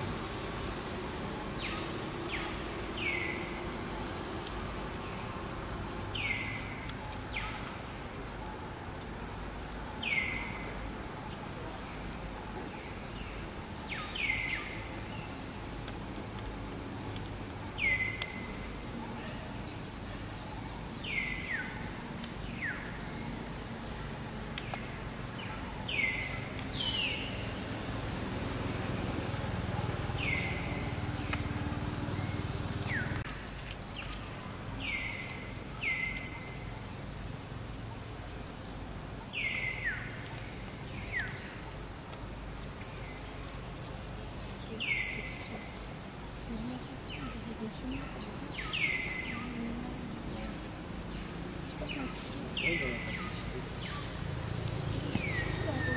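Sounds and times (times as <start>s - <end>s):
outdoor background hiss: 0.0s - 55.9s.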